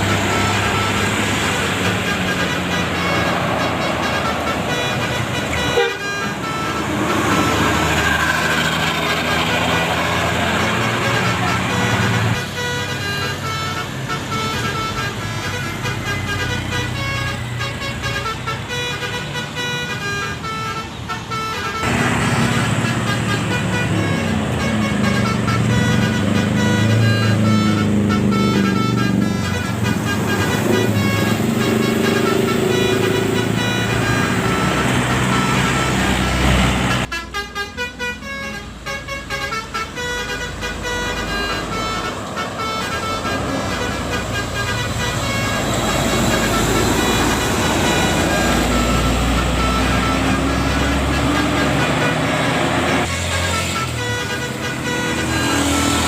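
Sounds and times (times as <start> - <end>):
bus engines running: 0.0 - 56.0
multi-tone bus horns playing melody: 0.0 - 56.0.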